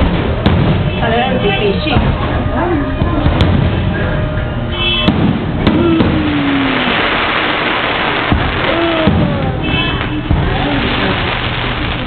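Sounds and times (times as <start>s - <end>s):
fireworks bangs: 0.0s - 4.0s, 5.0s - 12.0s.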